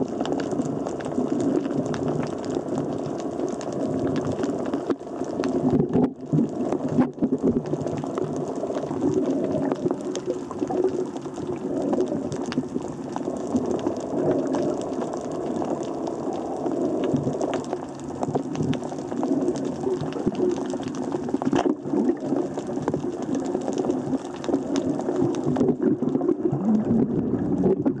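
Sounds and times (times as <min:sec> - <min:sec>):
faint clicks and crackles: 0:00.0 - 0:28.0
underwater churning of water: 0:00.0 - 0:28.0.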